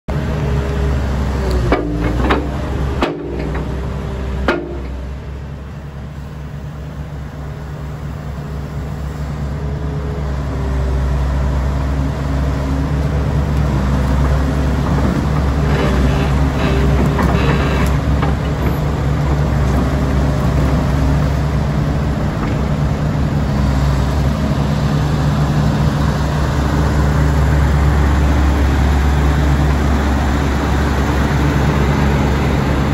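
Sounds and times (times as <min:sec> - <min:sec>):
excavator diesel engine idling: 0:00.1 - 0:32.9.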